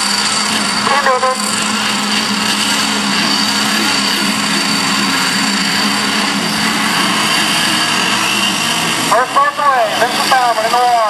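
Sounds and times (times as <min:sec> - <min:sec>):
racing boat engine running: 0:00.0 - 0:11.0.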